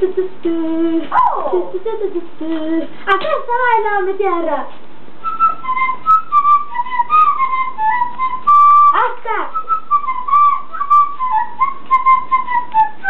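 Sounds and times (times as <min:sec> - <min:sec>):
small flute melody: 0:00.0 - 0:02.9, 0:05.2 - 0:13.0.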